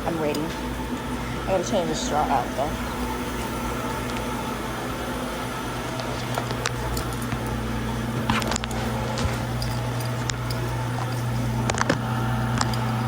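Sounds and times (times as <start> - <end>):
car engine and fan hum: 0.0 - 13.0.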